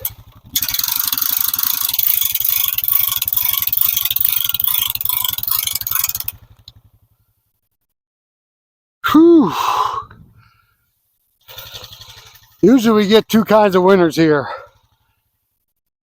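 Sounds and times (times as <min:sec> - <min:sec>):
atv engine rattling clatter: 0:00.0 - 0:07.8, 0:10.2 - 0:15.8.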